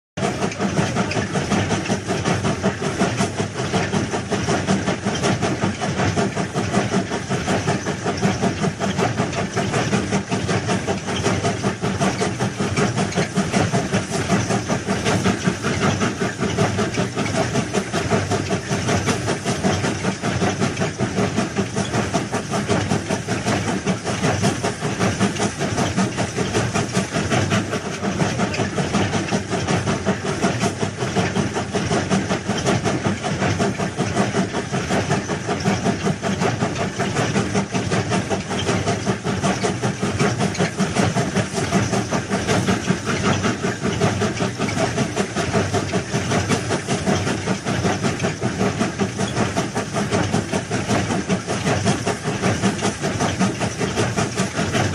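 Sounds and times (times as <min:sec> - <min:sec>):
track-laying machine clattering: 0:00.2 - 0:54.9.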